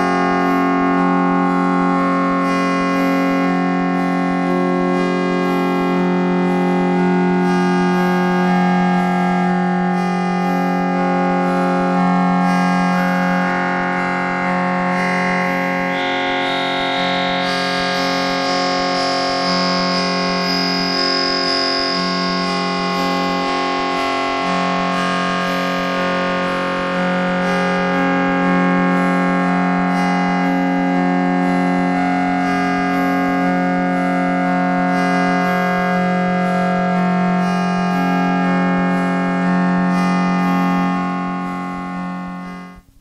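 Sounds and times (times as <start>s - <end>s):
synthesized plucked-string notes: 0.0s - 42.9s.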